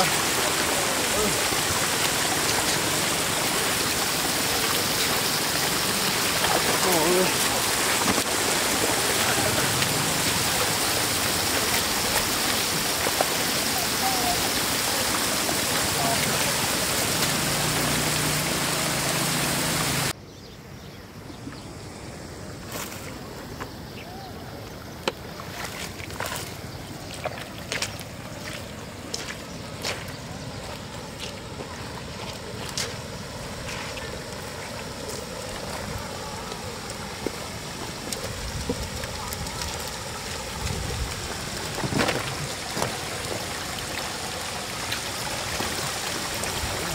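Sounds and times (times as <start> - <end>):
floodwater rushing: 0.0 - 20.2, 22.2 - 46.9.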